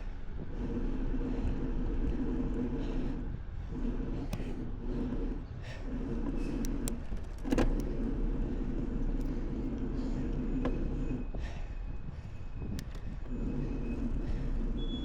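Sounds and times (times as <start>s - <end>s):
bike rattling: 0.0s - 14.8s
bicycle rolling over pavement: 0.0s - 15.0s.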